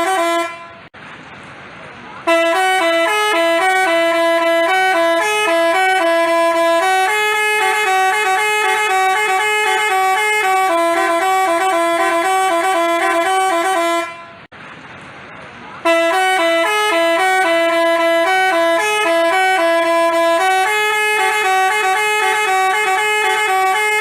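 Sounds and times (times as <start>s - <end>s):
bus horn melody: 0.0s - 0.9s, 2.2s - 14.5s, 15.8s - 24.0s.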